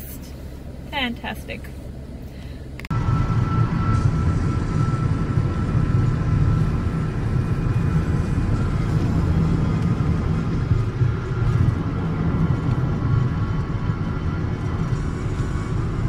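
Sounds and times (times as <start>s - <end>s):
car tyres and engine rumble: 0.0s - 16.0s.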